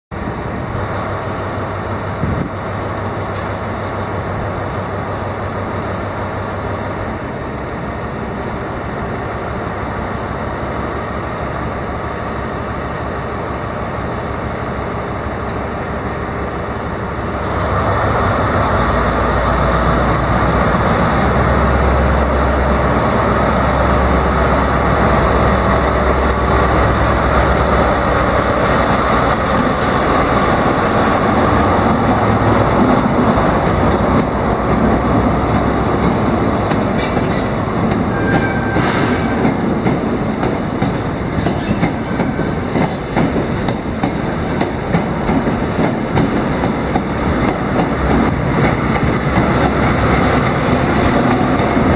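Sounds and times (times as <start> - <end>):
diesel engine: 0.1 - 51.9.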